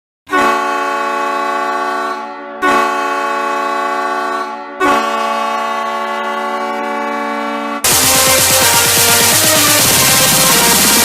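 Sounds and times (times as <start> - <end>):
goal horn blasts: 0.3 - 11.0.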